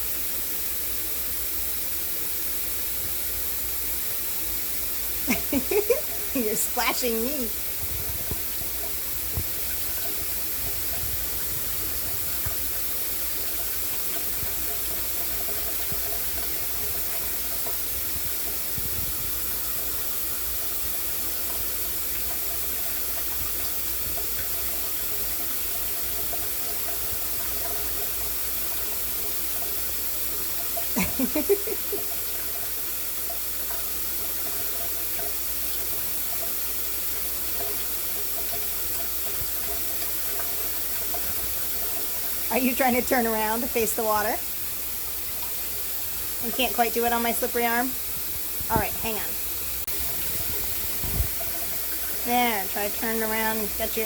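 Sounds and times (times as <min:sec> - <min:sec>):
shower spray hissing: 0:00.0 - 0:54.0.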